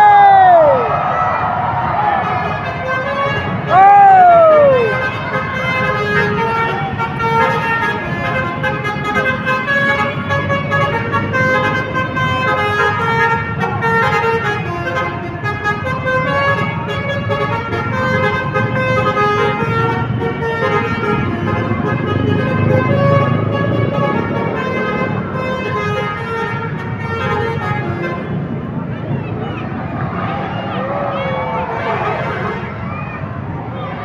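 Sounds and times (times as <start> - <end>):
bus horn playing a tune: 2.1 - 29.2, 31.6 - 32.9.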